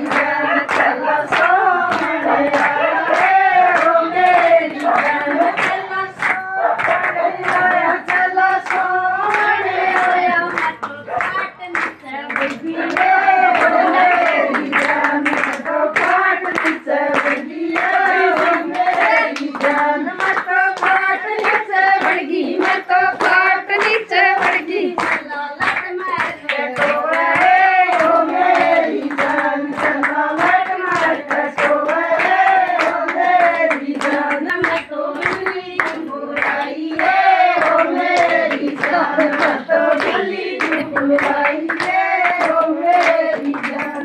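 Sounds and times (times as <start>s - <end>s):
hand clapping: 0.0s - 44.0s
women singing together: 0.0s - 44.0s.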